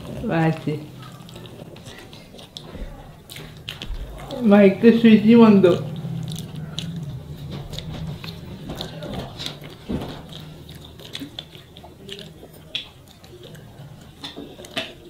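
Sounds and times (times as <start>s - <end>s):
chewing and mouth clicks: 0.0s - 15.0s
faint low hum: 0.0s - 15.0s.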